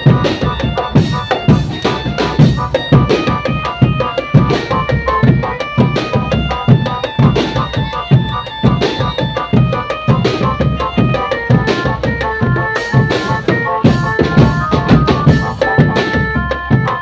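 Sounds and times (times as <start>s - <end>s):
bass and snare drums beating: 0.0s - 17.0s
melody instrument playing tune: 0.0s - 17.0s.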